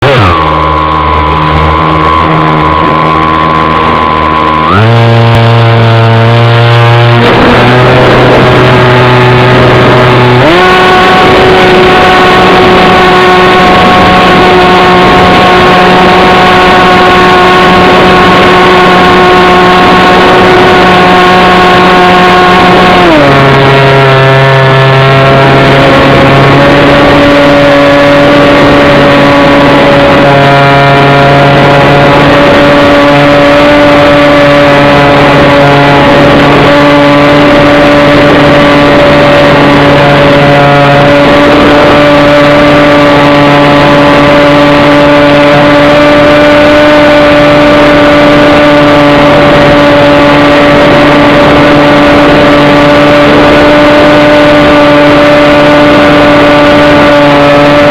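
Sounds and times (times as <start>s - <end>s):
small engine running steadily: 0.0s - 57.9s.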